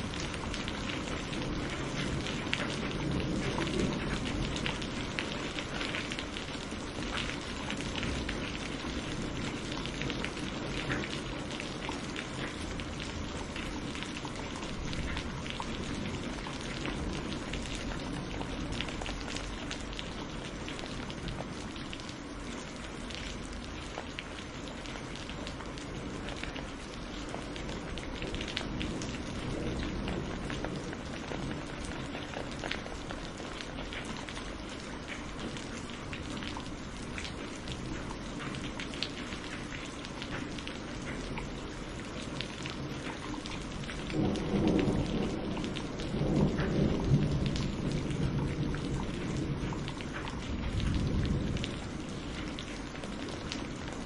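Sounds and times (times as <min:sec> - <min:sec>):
low rumble of thunder: 0:00.0 - 0:54.0
rain pattering: 0:00.0 - 0:54.0.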